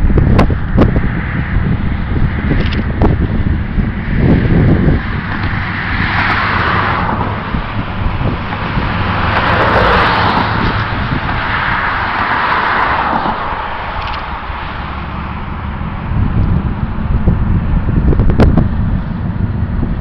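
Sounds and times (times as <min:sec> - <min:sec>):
locomotive engine drone: 0:00.0 - 0:20.0
rushing noise: 0:00.0 - 0:20.0.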